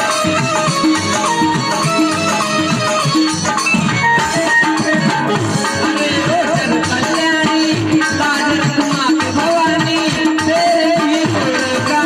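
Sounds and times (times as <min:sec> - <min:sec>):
hand drum rhythm: 0:00.0 - 0:12.0
held melodic line: 0:00.0 - 0:12.0.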